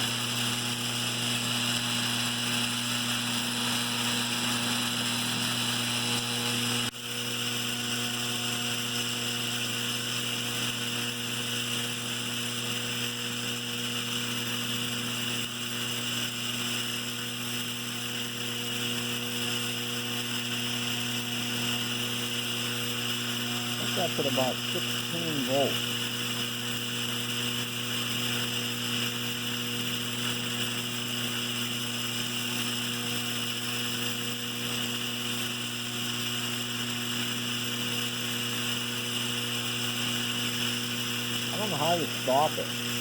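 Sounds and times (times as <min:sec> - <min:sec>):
vibrator mechanism buzzing: 0:00.0 - 0:43.0.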